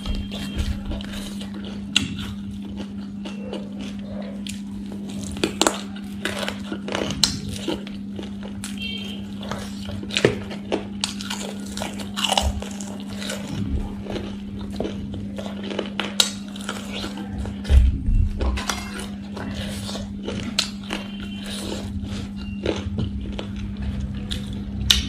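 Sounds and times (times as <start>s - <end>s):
crunchy chewing and biting: 0.0s - 25.0s
steady low hum: 0.0s - 25.0s.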